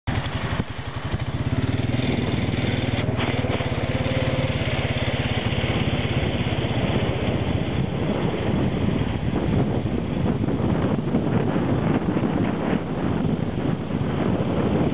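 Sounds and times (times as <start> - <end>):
vehicle engine running steadily: 0.1 - 14.9.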